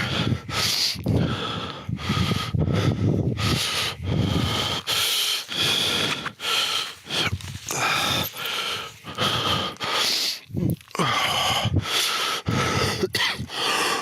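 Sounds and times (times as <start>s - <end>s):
man breathing heavily with wheeze: 0.0s - 14.0s.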